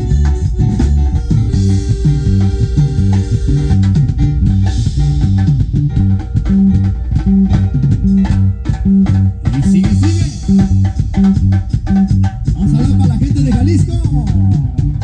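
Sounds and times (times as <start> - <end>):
guitar and bass music: 0.0 - 15.0.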